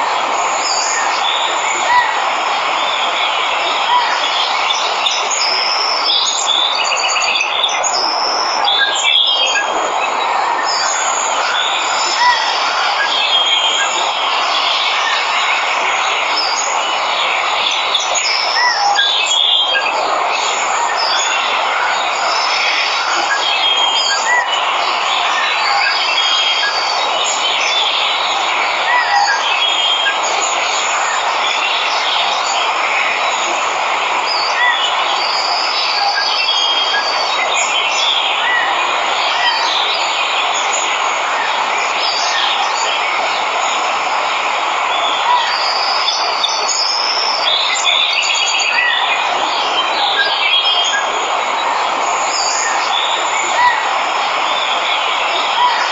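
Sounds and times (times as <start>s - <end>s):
birds chirping: 0.0s - 55.9s
waterfall rushing: 0.0s - 55.9s.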